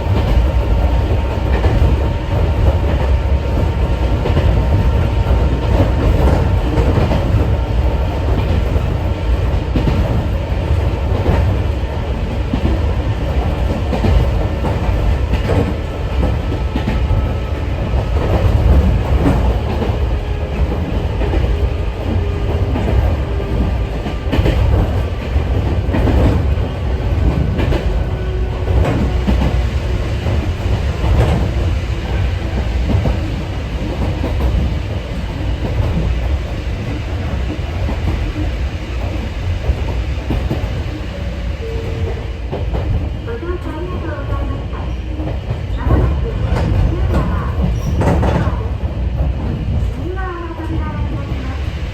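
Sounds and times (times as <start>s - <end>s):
train running low rumble: 0.0s - 51.9s.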